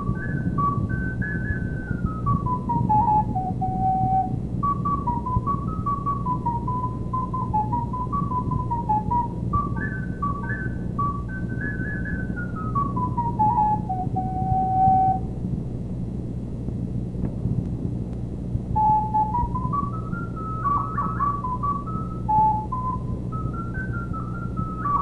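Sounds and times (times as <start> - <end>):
recorder melody: 0.0 - 15.4, 18.7 - 25.0
low background hum: 0.0 - 25.0.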